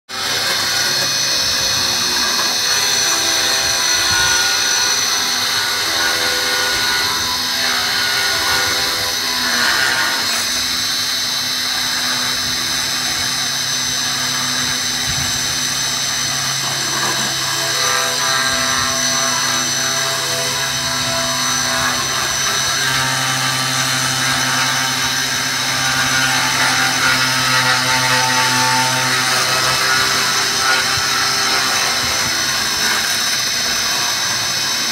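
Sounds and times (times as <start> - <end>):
router spindle high whine: 0.1 - 34.9.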